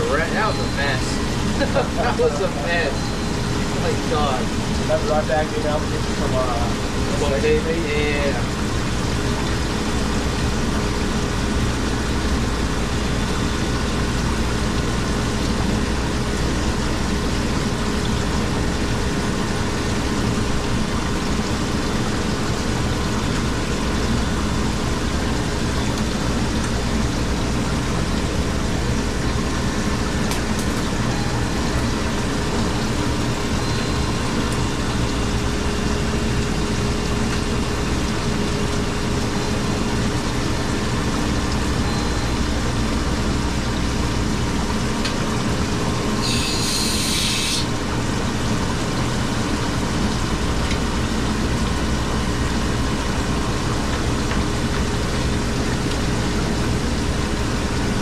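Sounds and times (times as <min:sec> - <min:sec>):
fan noise: 0:00.0 - 0:58.0
refrigeration machinery humming: 0:00.0 - 0:58.0.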